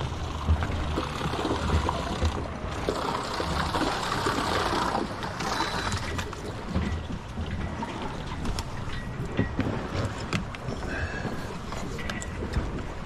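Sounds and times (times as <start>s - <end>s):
low uneven rumble: 0.0s - 13.0s
water rushing and splashing: 0.0s - 13.0s.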